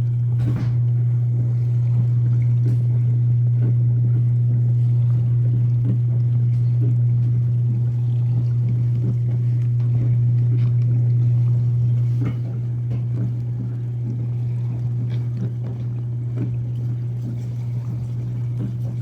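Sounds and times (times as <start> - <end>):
dishwasher pump motor hum: 0.0 - 19.0
water splashing: 1.4 - 19.0.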